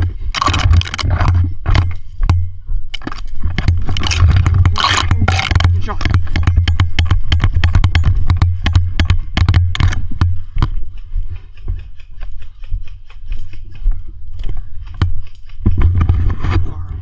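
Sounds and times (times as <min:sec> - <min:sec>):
gear knocking and clicking: 0:00.0 - 0:16.6.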